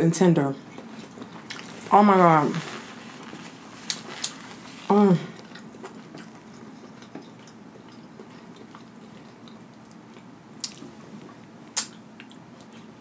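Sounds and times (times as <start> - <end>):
soft chewing and squishing: 0.6 - 13.0.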